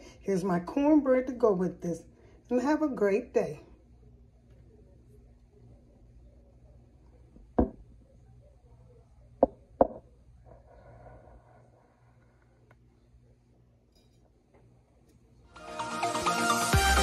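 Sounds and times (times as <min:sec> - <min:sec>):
faint room hum: 0:00.0 - 0:15.6.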